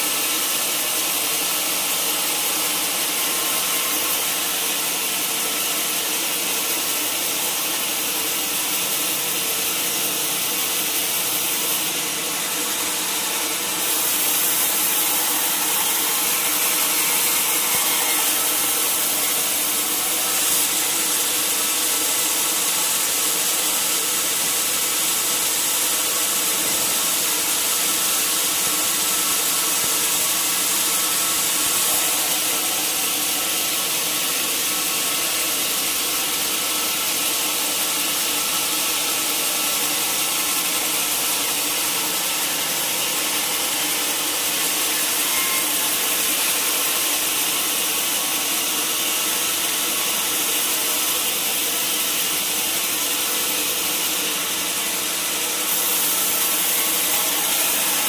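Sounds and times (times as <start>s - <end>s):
saw cutting through timber: 0.0s - 58.0s.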